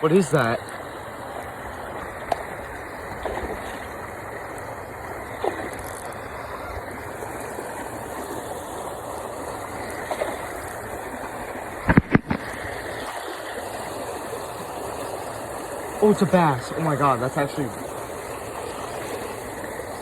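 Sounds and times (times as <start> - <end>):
rushing flowing water: 0.0 - 20.0.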